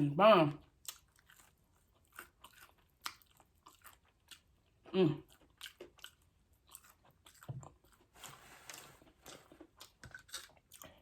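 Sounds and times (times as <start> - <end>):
person chewing crunchy food: 0.6 - 11.0.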